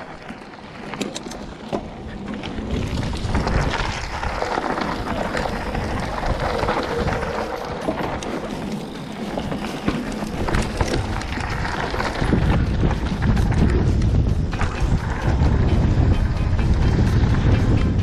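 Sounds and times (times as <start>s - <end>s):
tyres crunching over gravel: 0.0s - 15.6s
bike clicks and knocks: 0.0s - 18.0s
wind on microphone: 2.1s - 8.6s, 9.4s - 18.0s.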